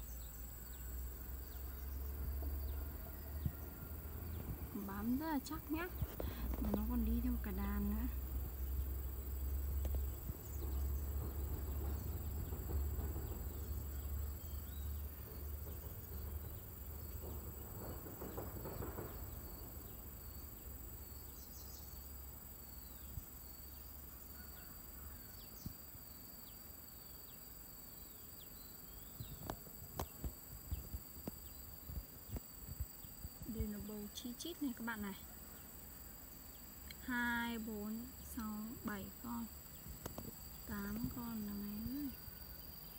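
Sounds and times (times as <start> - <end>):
insects singing: 0.0 - 42.9.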